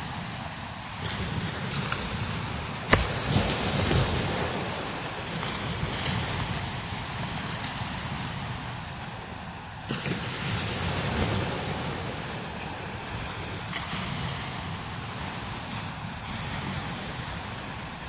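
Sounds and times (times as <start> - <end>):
strong wind gusting: 0.0 - 18.0
wind buffeting microphone: 0.0 - 18.0.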